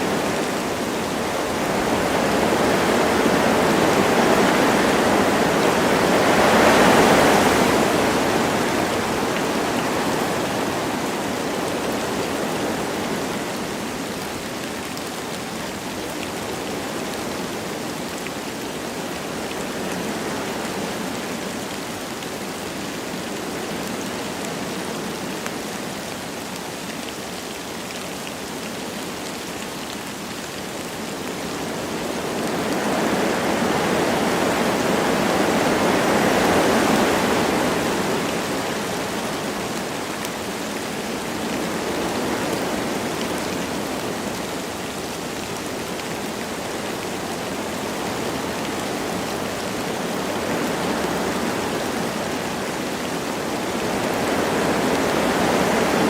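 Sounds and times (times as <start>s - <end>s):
light rain falling: 0.0s - 56.0s
wind through forest trees: 0.0s - 56.0s.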